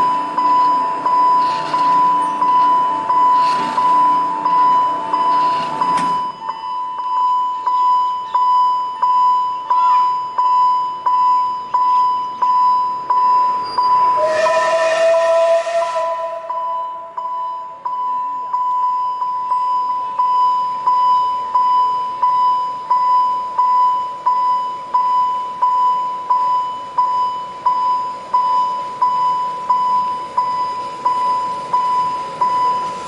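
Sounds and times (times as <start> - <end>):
level crossing warning bell: 0.0 - 33.0.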